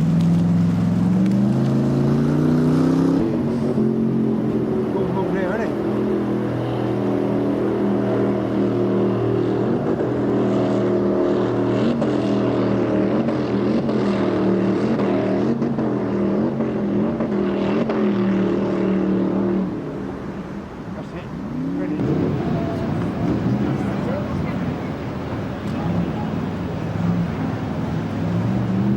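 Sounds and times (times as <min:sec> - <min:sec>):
motorboat engine running: 0:00.0 - 0:28.8.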